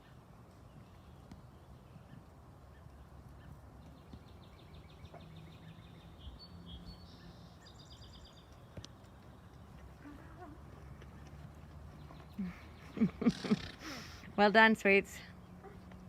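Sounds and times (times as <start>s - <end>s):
low steady background noise: 0.0s - 16.0s.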